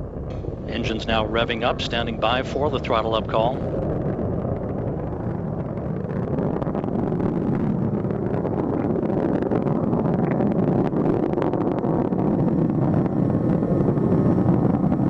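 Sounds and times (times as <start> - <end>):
rocket exhaust roar: 0.0 - 15.0.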